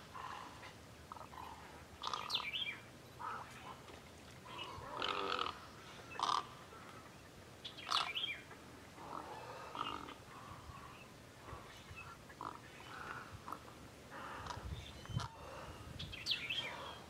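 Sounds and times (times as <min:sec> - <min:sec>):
wading birds calling: 0:00.0 - 0:17.0.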